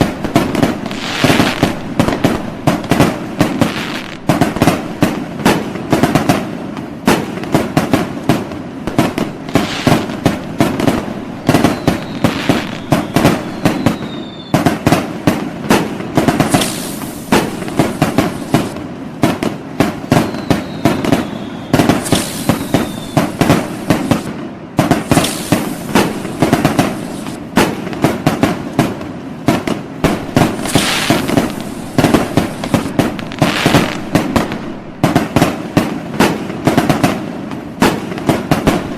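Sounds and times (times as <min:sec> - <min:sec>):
fireworks and firecrackers banging: 0:00.0 - 0:38.9
whistling fireworks: 0:00.0 - 0:38.9.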